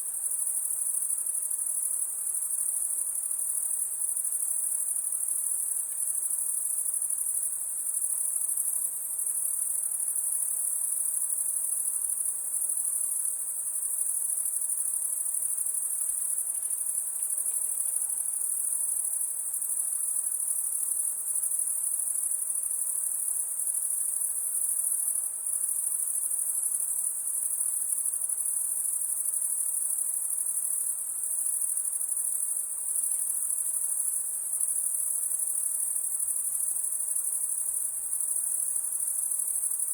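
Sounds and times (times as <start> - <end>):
night insects calling: 0.1 - 39.9.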